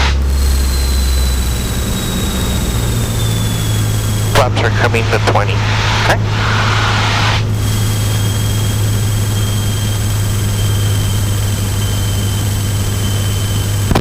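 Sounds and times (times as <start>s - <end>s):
faint high whine: 0.0s - 14.0s
propeller plane engine drone: 0.0s - 14.0s.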